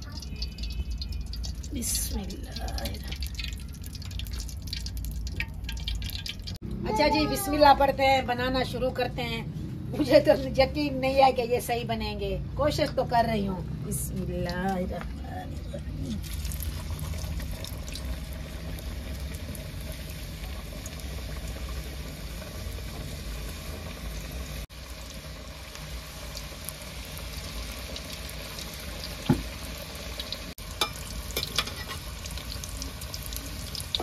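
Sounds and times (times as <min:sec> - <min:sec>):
food deep-frying in oil: 0:00.0 - 0:08.1, 0:12.7 - 0:34.0.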